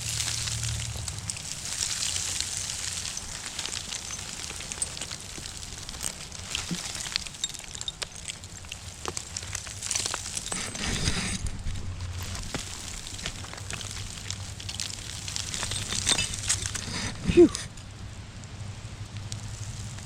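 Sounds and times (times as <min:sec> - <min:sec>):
dirt and stones crumbling: 0:00.0 - 0:18.0.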